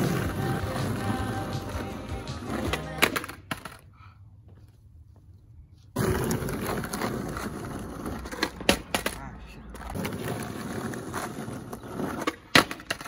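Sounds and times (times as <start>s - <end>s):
skateboard deck clacking on street: 0.0s - 3.8s, 6.0s - 13.0s
skateboard wheels rumbling on road: 0.0s - 3.8s, 5.9s - 13.0s.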